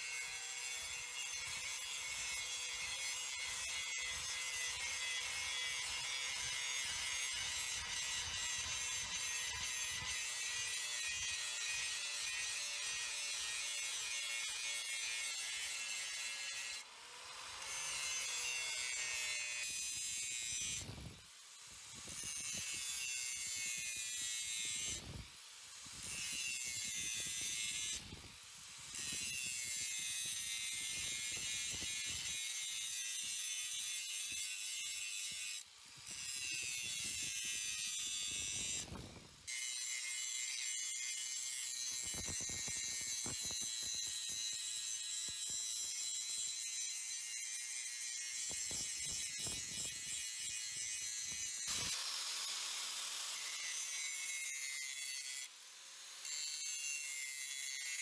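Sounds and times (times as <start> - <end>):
power grinder grinding steel: 0.0 - 58.0.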